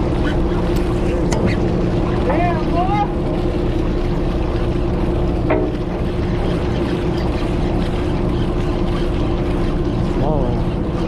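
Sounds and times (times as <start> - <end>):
boat engines droning: 0.0 - 11.0
wind and water rumble: 0.0 - 11.0.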